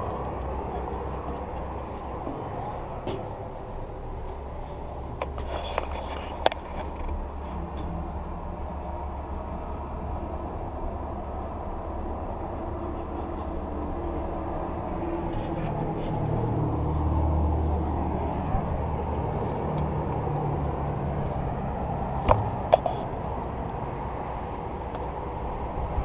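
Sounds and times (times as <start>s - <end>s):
diesel locomotive engine idling: 0.0s - 26.0s.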